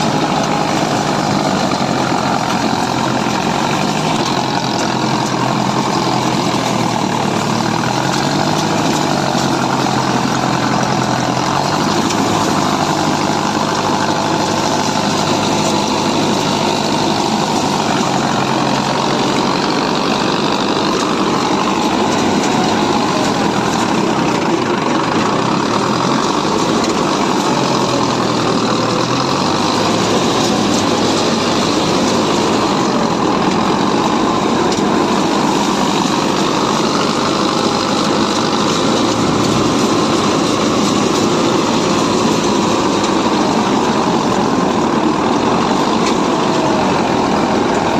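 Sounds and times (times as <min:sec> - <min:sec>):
harvester diesel engine running: 0:00.0 - 0:47.9.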